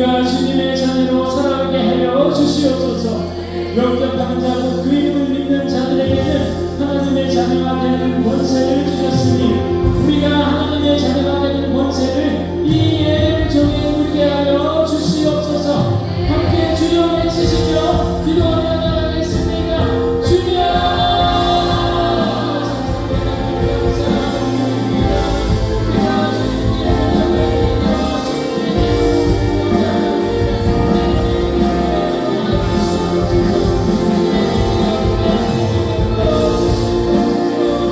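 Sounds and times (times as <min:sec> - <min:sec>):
keyboards bass and drums: 0:00.0 - 0:37.9
voices singing together: 0:00.0 - 0:37.9.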